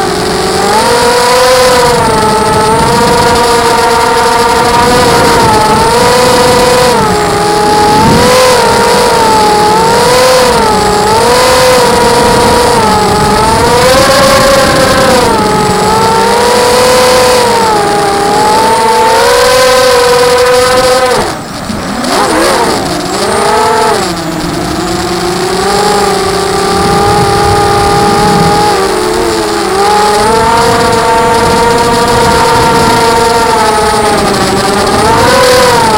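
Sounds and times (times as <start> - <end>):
quadcopter motors whining: 0.0 - 35.9.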